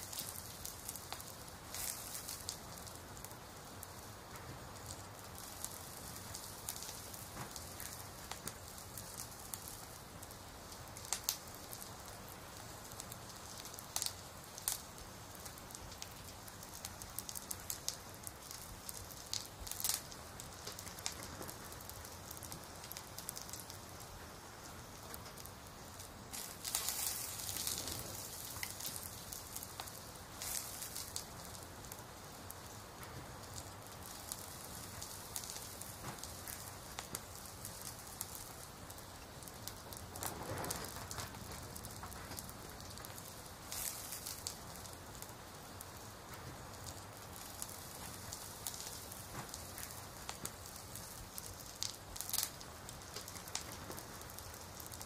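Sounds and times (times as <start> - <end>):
sharp crackles and clicks: 0.0 - 55.0
soft steady hiss: 0.0 - 55.0.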